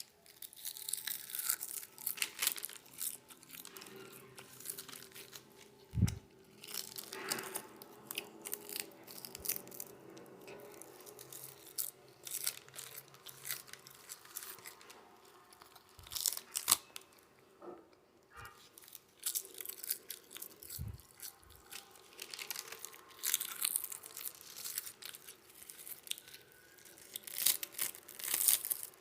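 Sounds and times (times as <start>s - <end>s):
seaweed tearing and chewing: 0.0s - 17.2s, 18.6s - 29.0s.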